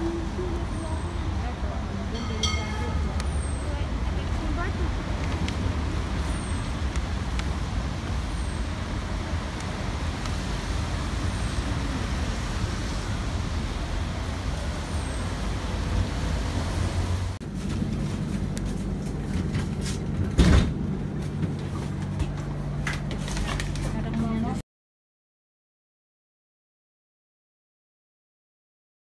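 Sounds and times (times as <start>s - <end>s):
low hum inside moving tram: 0.0s - 24.6s
tram rumbling on rails: 0.0s - 24.6s.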